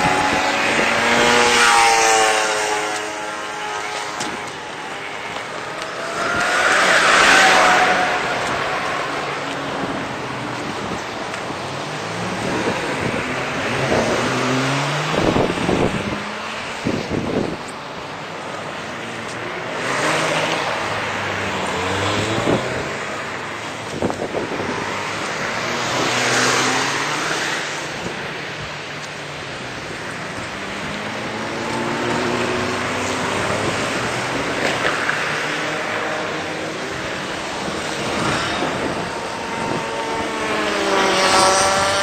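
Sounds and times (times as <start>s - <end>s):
cars passing: 0.0s - 42.0s.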